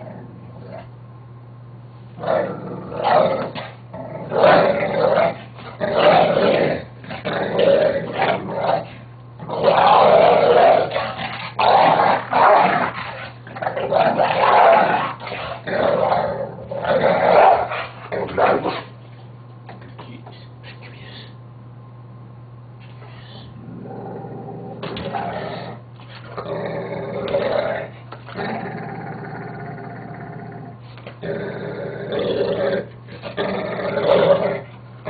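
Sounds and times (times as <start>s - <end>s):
dog growling: 0.0s - 0.9s, 2.2s - 18.9s, 23.3s - 34.8s.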